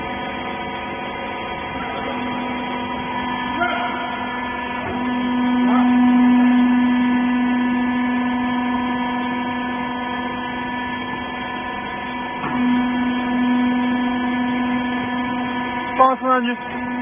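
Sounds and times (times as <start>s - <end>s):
hydraulic pump humming: 0.0s - 17.0s.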